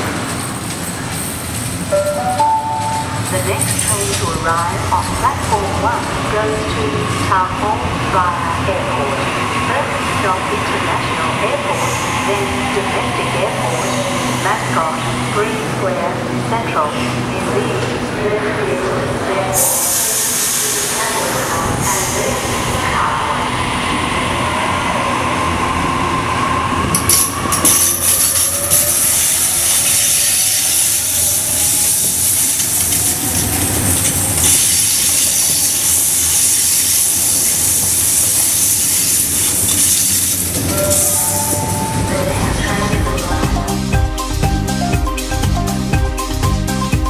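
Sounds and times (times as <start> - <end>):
rising train motor whine: 0.0 - 47.0
train wheels rumbling on rails: 0.0 - 47.0.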